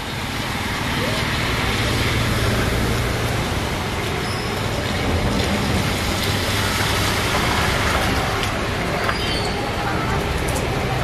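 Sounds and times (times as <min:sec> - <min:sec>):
heavy rain on street: 0:00.0 - 0:11.0
tyres swishing on wet road: 0:00.0 - 0:11.0.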